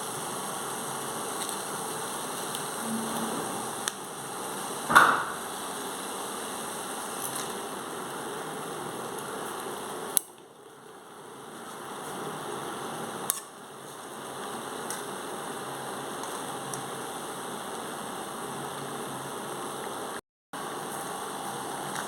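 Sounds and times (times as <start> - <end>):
pot boiling on stove: 0.0 - 22.0.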